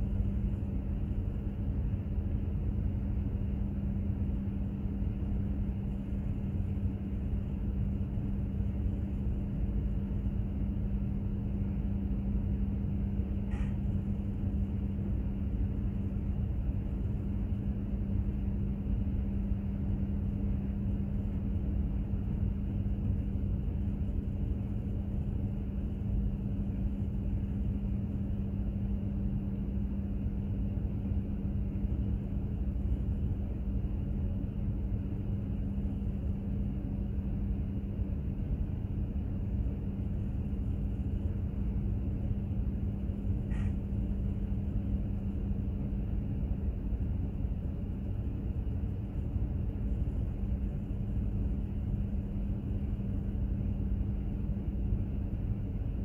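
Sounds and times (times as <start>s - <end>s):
ship machinery low drone: 0.0s - 56.0s.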